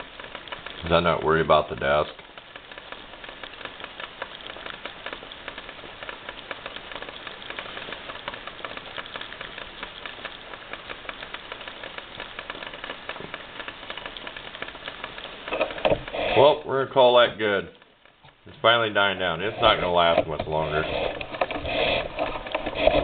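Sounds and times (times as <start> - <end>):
stove jets crackling sizzle: 0.0 - 23.0
water boiling: 0.0 - 23.0.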